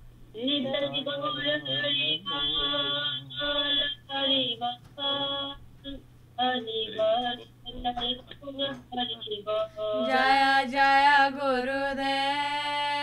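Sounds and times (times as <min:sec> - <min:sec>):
woman singing a chant: 0:00.4 - 0:13.0.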